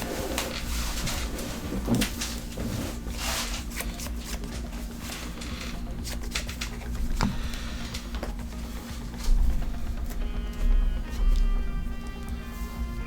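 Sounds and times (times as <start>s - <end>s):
trading cards shuffling: 0.0s - 12.2s
steady low hum: 0.0s - 13.0s.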